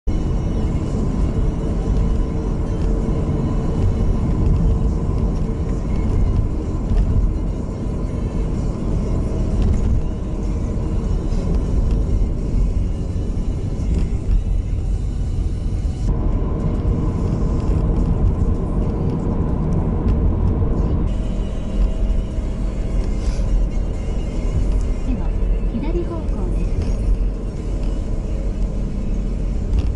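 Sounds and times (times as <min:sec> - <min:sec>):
car engine and tyres rumbling: 0:00.0 - 0:29.9.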